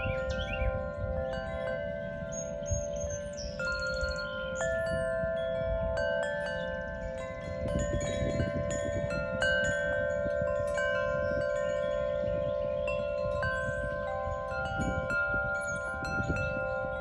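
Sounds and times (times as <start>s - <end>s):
wind chimes ringing: 0.0s - 17.0s.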